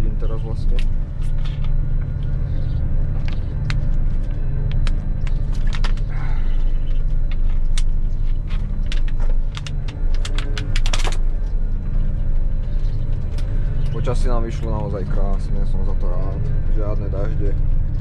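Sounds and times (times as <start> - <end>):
combine harvester engine running: 0.0 - 18.0
sharp clicks and rattles: 0.1 - 6.2, 6.8 - 18.0.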